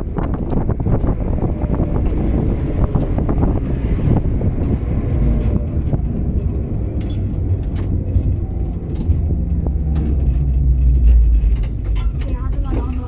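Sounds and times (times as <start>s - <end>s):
deep hum: 0.0s - 13.0s
tram wheels rumbling on rails: 0.0s - 13.0s.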